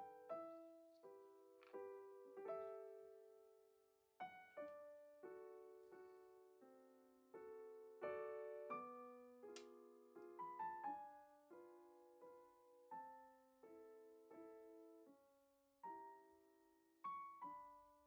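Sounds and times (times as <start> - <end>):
soft slow piano music: 0.0 - 18.0.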